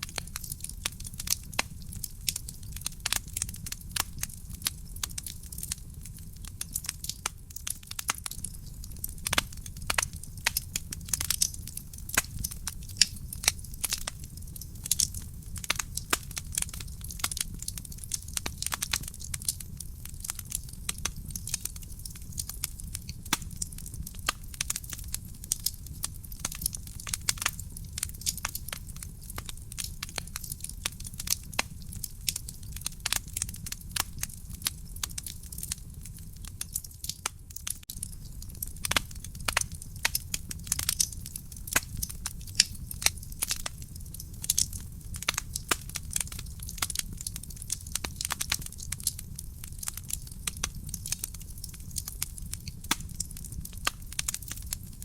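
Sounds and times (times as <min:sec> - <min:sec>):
flames rumbling: 0:00.0 - 0:55.0
wood fire crackling and popping: 0:00.0 - 0:55.0.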